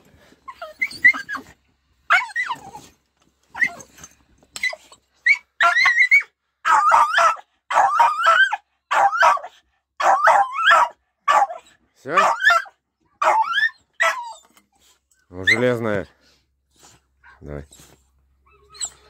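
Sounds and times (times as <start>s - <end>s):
dog yipping and whining: 0.4s - 15.7s, 17.2s - 19.0s.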